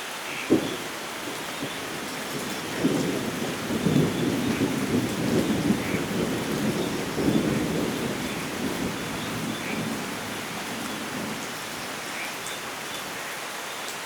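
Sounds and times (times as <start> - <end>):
rain hissing: 0.0 - 14.0
thunder rumble: 0.5 - 12.8.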